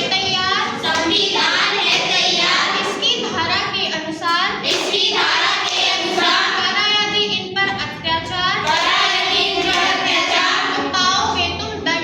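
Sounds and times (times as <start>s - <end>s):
children singing: 0.0s - 7.2s, 8.4s - 11.4s.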